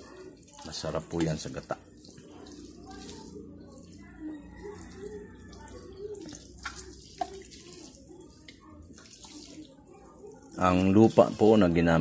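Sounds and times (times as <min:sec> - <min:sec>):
watering can showering on soil: 0:00.0 - 0:12.0.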